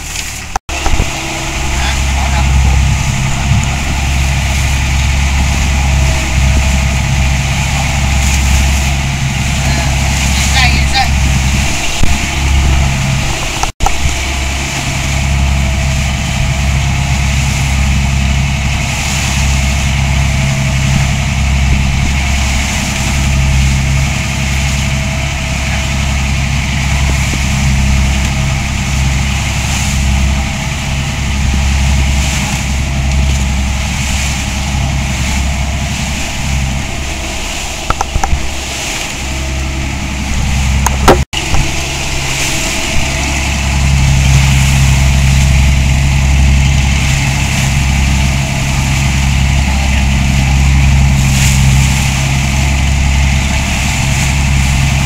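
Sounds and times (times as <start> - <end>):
boat engine drone: 0.0 - 55.0
wind and water hiss: 0.0 - 55.0.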